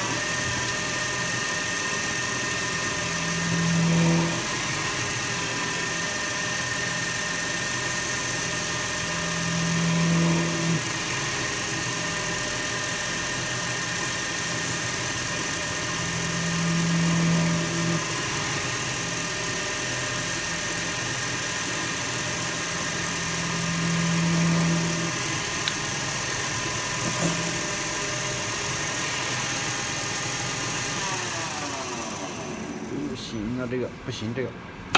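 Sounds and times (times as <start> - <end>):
metal spinning machine whirring: 0.0 - 33.6.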